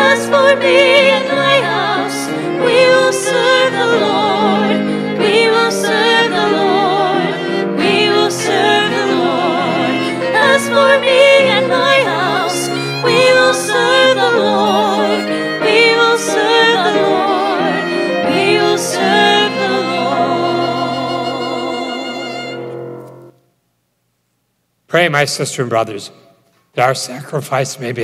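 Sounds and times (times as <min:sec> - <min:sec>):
person singing with vibrato: 0:00.0 - 0:23.0
piano accompaniment: 0:00.0 - 0:23.4.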